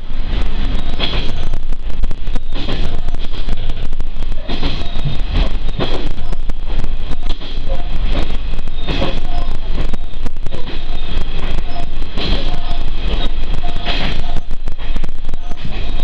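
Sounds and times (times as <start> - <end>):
train cabin rumble: 0.0 - 16.0
wheel and rail clatter: 0.0 - 16.0.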